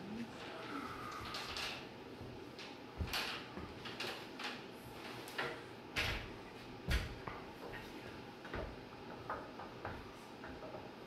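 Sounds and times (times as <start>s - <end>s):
ceiling fan running: 0.0s - 11.0s
fan clicks and knocks: 1.2s - 11.0s.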